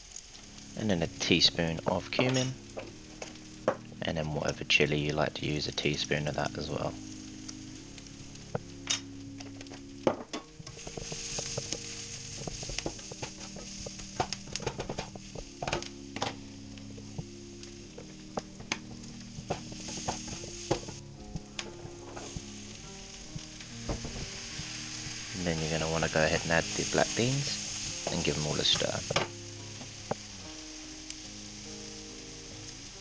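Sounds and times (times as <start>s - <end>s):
onions sizzling in frying pan: 0.0s - 33.0s.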